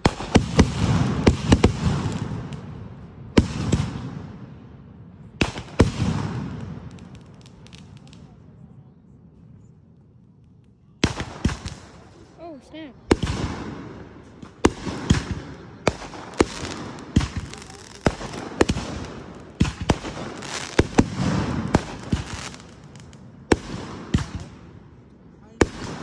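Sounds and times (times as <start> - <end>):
firework crackle: 0.0 - 4.2, 5.3 - 8.8, 10.4 - 12.4, 13.0 - 24.7
firework bangs echoing: 0.0 - 8.4, 11.0 - 12.4, 13.0 - 26.0.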